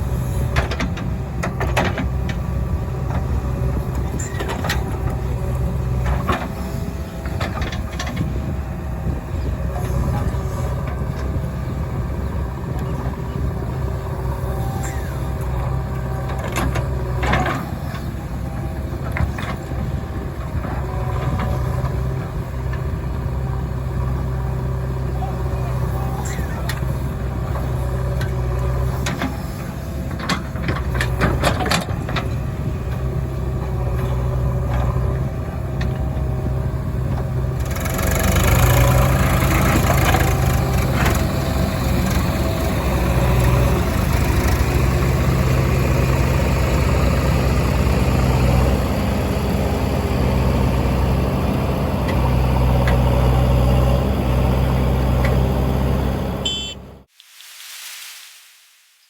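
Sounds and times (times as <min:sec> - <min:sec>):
heavy diesel engine revving: 0:00.0 - 0:57.1.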